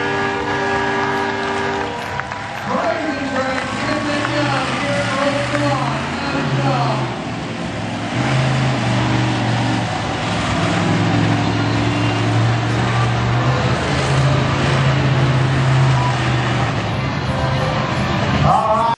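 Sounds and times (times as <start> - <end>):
truck engine running loudly: 0.0 - 18.9.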